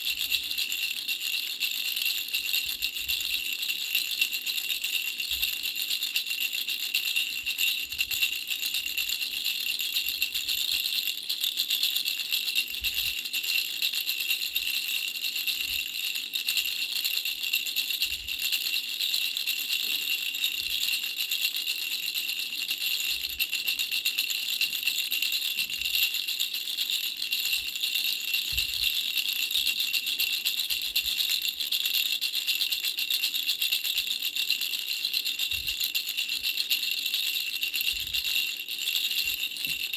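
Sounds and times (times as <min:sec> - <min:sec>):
bell rattle jingling: 0:00.0 - 0:39.9.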